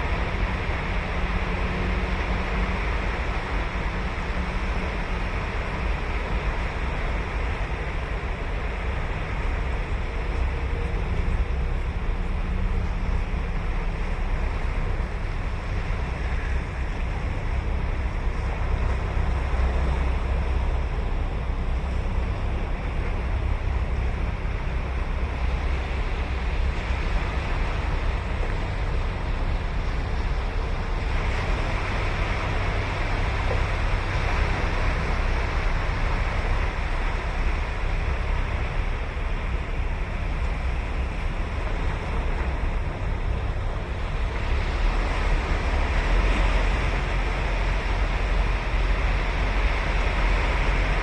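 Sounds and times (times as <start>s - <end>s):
ocean surf on beach: 0.0s - 51.0s
wind rumble on microphone: 0.0s - 51.0s.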